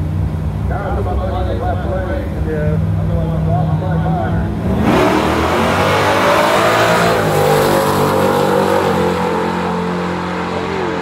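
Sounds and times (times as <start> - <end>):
drag racing cars accelerating: 0.5 - 11.0.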